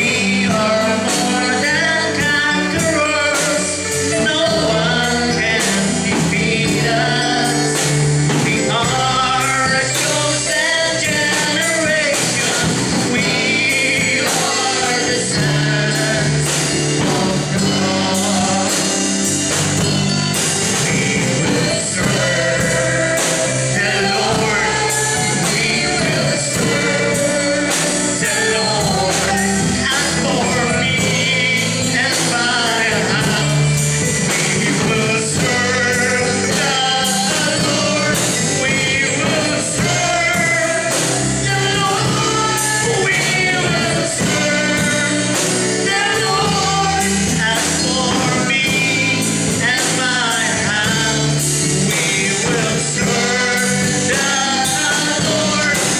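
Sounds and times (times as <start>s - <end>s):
instrumental music with steady beat: 0.0s - 55.9s
man singing into a microphone: 0.0s - 55.9s.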